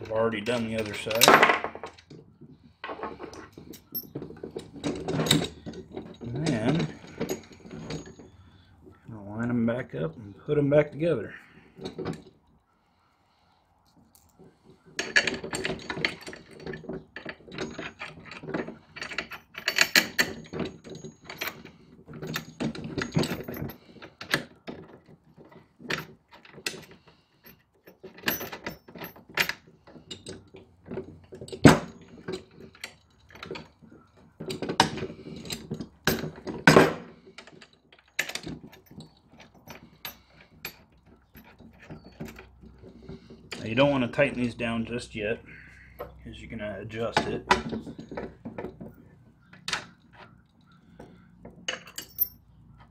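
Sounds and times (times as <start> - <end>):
metal bolts and nuts clinking: 0.0 - 12.6, 13.9 - 52.9.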